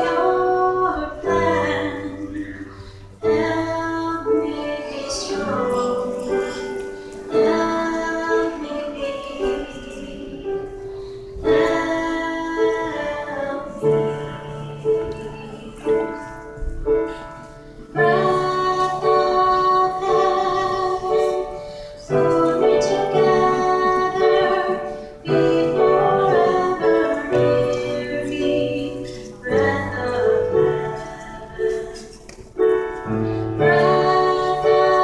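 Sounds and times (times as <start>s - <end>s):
woman singing: 0.0s - 16.5s, 17.9s - 35.0s
piano accompaniment: 0.0s - 35.0s.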